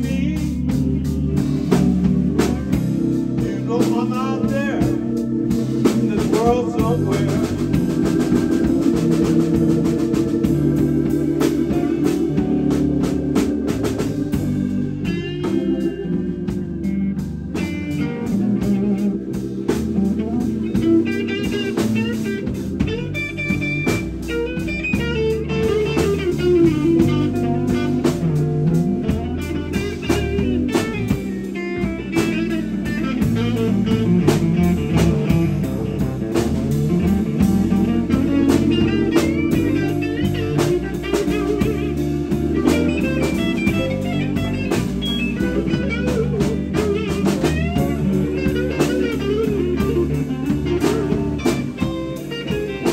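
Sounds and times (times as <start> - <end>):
bass guitar: 0.0 - 52.9
drums: 0.0 - 52.9
electric guitar lead: 0.0 - 52.9.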